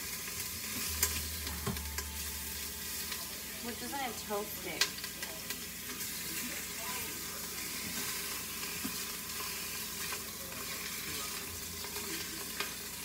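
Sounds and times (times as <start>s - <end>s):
beef sizzling in oil: 0.0s - 13.0s.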